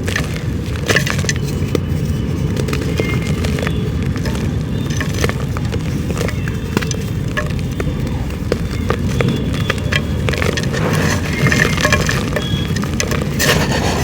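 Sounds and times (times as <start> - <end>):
dried clay crumbling: 0.0 - 14.0.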